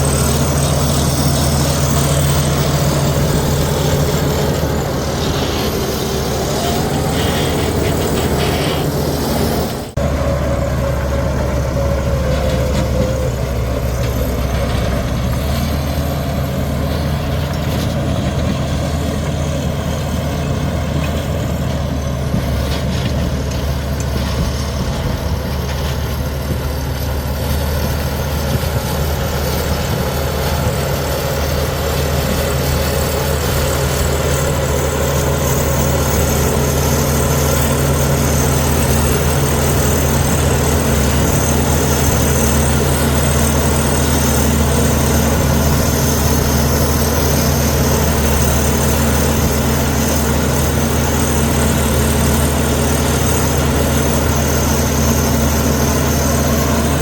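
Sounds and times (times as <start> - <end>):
heavy diesel machinery engine drone: 0.0 - 57.0.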